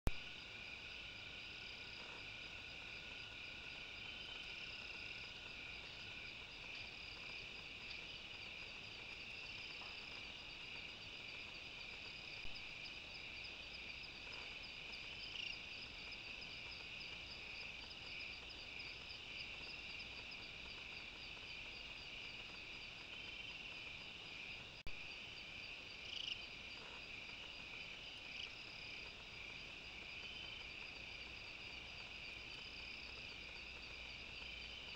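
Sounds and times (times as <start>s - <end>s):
insect chirping: 0.1s - 34.9s.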